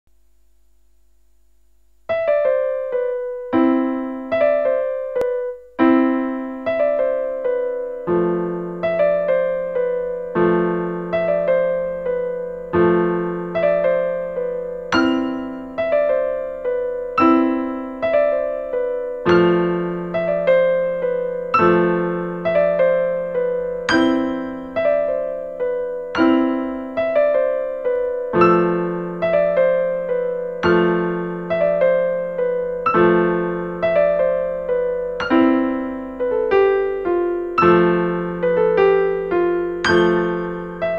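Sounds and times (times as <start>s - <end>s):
solo piano music: 1.8s - 40.9s.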